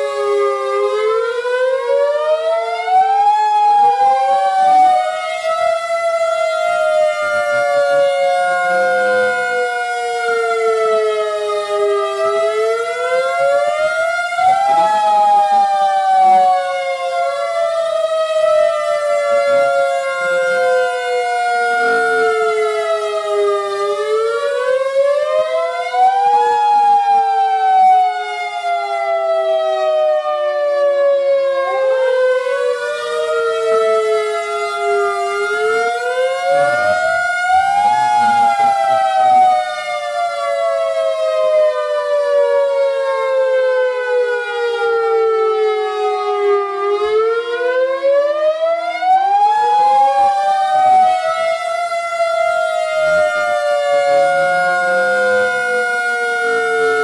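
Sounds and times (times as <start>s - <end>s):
warning sirens wailing: 0.0s - 57.0s.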